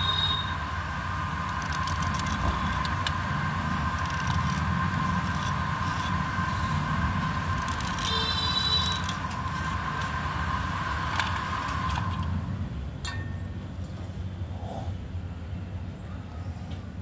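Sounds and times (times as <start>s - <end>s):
low rumble with high whine: 0.0s - 16.1s.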